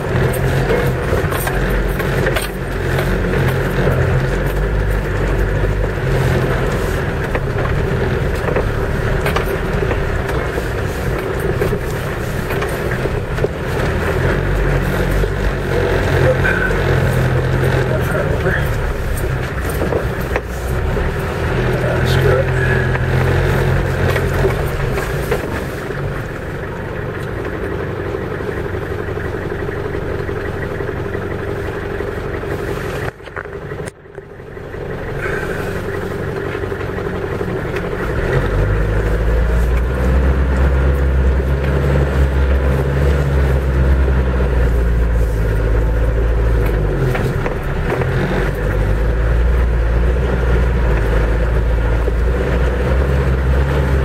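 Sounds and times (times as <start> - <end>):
truck engine from inside cab: 0.0 - 54.0.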